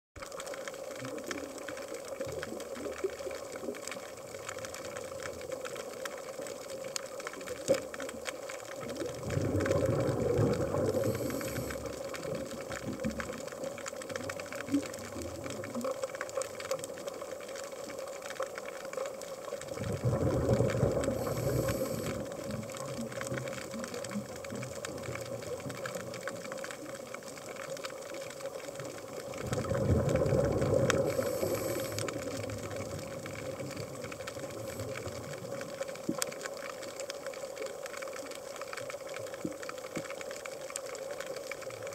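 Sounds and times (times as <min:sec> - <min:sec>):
regulator bubbles rumbling: 0:00.2 - 0:18.4, 0:19.6 - 0:36.4
faint crackling clicks: 0:00.2 - 0:41.9.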